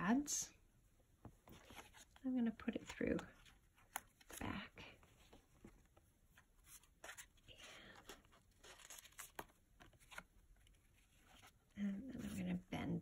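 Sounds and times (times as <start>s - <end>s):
rustling and scraping of cardstock: 1.4s - 2.2s, 2.8s - 12.6s.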